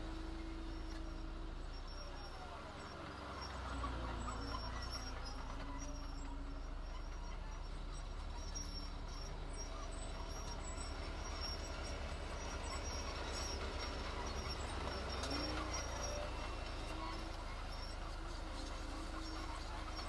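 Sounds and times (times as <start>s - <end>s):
diesel machinery engine running: 0.0s - 20.0s.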